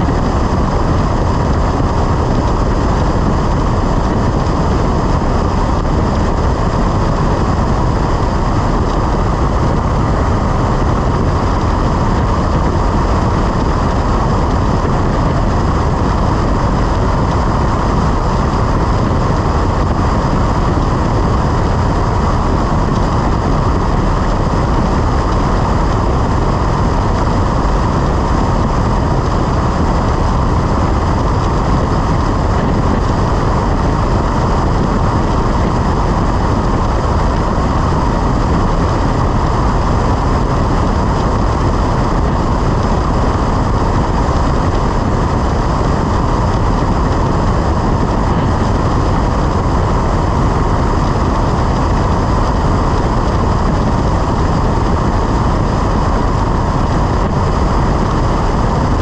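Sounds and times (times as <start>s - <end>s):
small plane engine drone: 0.0s - 59.0s.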